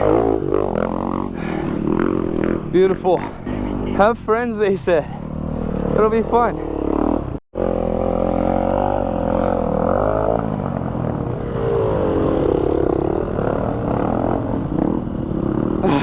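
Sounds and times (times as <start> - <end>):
dirt bike engine revving: 0.0 - 4.4, 5.1 - 16.0.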